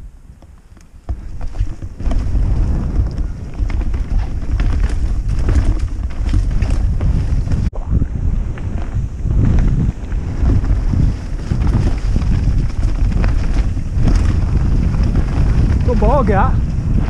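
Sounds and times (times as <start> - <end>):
wind buffeting microphone: 0.0 - 17.0
bike rattling over rough ground: 0.1 - 17.0.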